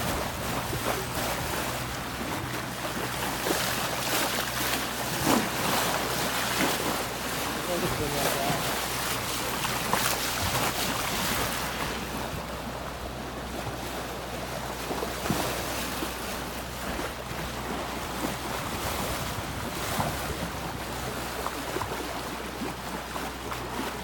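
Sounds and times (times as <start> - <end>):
wind buffeting microphone: 0.0 - 22.7
water rushing along a hull: 0.0 - 24.0.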